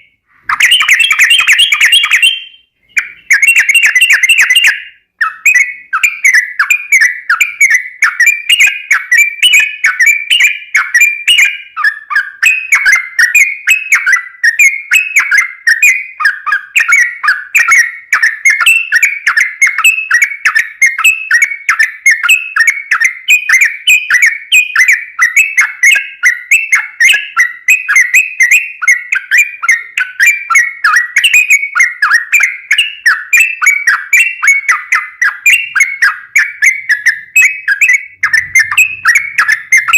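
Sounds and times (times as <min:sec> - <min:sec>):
bird singing fast chirps: 0:00.0 - 0:39.9.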